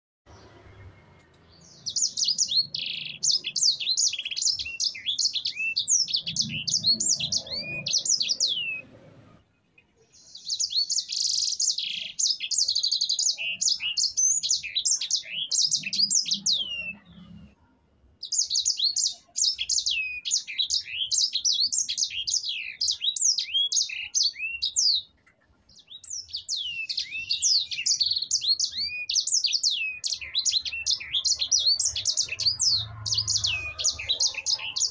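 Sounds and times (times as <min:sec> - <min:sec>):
finch singing: 0:00.3 - 0:17.6, 0:18.2 - 0:34.9.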